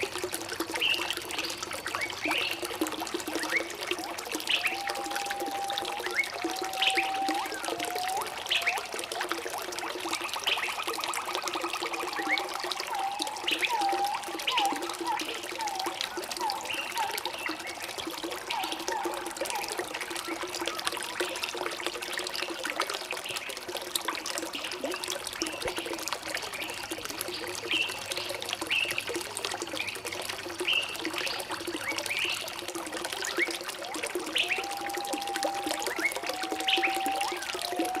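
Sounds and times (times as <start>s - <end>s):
water trickling: 0.0s - 38.0s.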